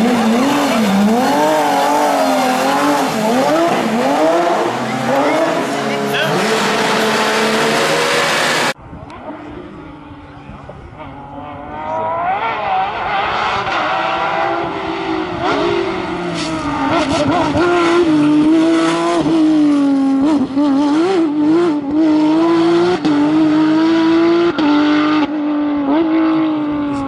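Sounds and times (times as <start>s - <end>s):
car engine at high revs: 0.0s - 27.0s.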